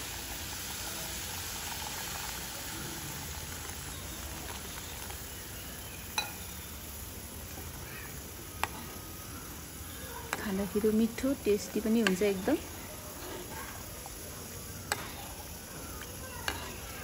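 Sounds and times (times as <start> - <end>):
water pouring and sizzling: 0.0 - 17.0.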